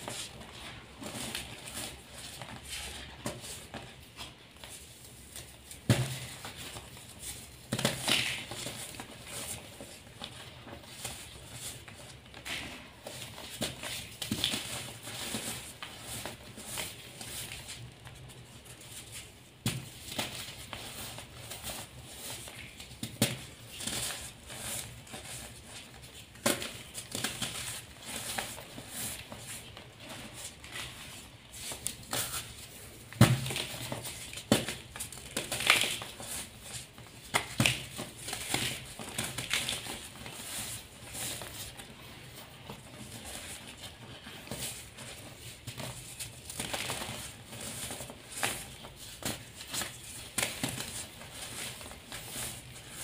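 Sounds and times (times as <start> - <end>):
chalk crumbling by hand: 0.0 - 53.0.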